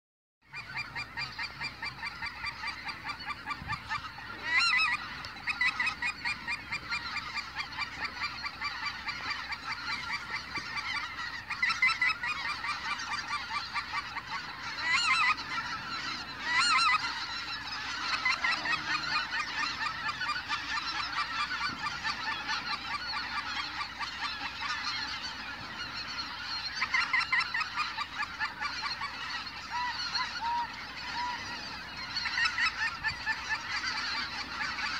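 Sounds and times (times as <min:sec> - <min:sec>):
geese honking: 0:00.5 - 0:34.9.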